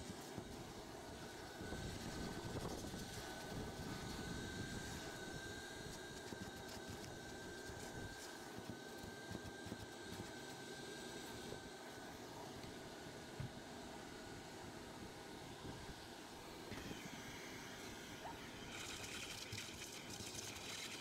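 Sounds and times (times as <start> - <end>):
vacuum motor whining: 0.2 - 21.0.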